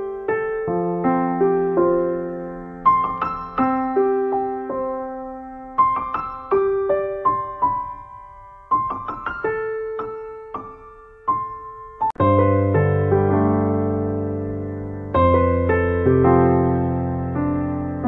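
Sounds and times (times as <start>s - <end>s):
gentle piano piece: 0.0s - 18.0s.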